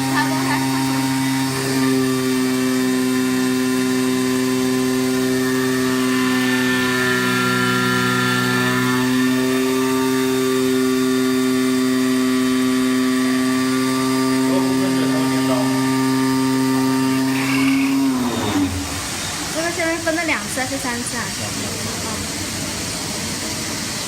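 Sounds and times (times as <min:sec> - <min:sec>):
cutting machine hum and whir: 0:00.0 - 0:24.0.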